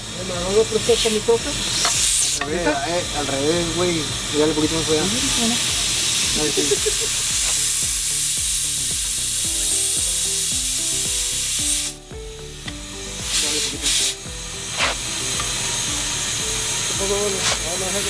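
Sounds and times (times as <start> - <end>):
air escaping past tire bead: 0.0 - 18.0
compressed air inflating tire: 0.0 - 18.0.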